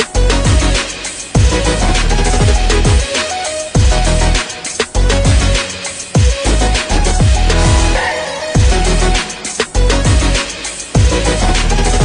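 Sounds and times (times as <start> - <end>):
electronic music with deep bass: 0.0 - 12.0.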